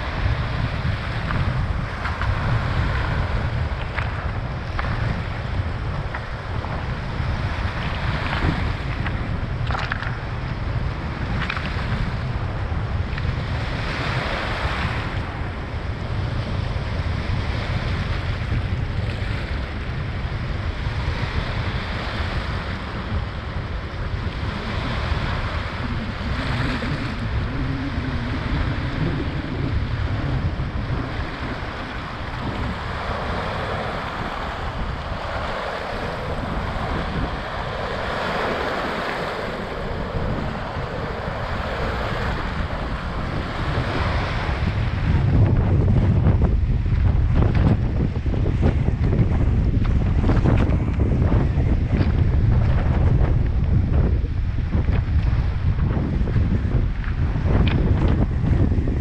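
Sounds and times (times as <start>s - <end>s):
waves washing onto beach: 0.0s - 59.0s
wind buffeting microphone: 0.0s - 59.0s.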